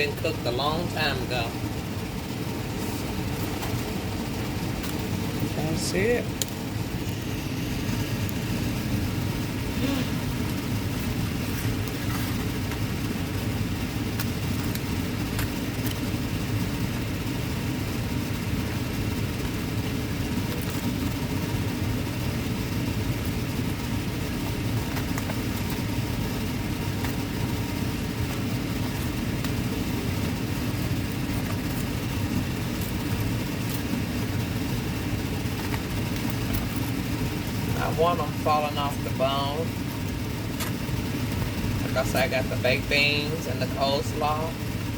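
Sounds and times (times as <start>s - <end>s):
electric fan whirring: 0.0s - 44.9s.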